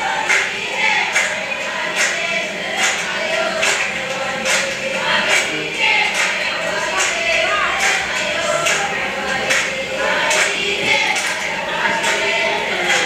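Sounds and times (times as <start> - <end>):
crowd chanting and singing: 0.0 - 13.0
rhythmic clapping: 0.0 - 13.0.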